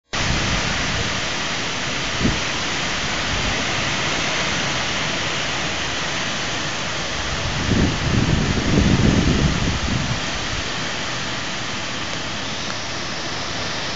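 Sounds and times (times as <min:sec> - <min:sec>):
heavy rain falling: 0:00.1 - 0:13.9.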